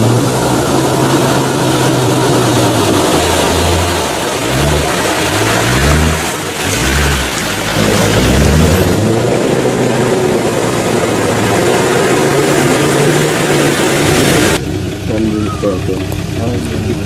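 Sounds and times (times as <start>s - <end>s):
loud rushing noise: 0.0s - 15.1s
engine revving: 0.0s - 17.0s.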